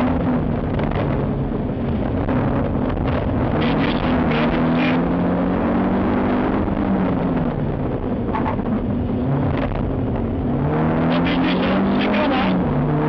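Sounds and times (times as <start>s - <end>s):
rally car engine under load: 0.0s - 13.0s
road and tyre noise: 0.0s - 13.0s.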